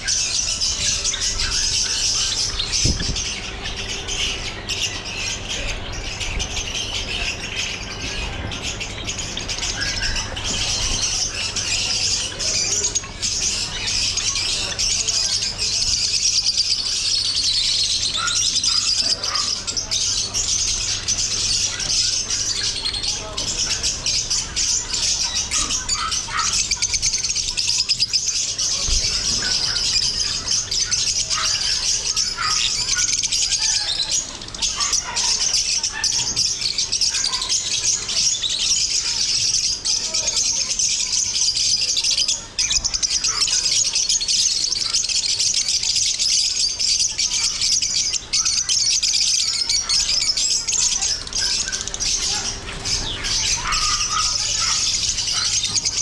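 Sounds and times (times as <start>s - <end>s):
caged birds chirping: 0.0s - 56.0s.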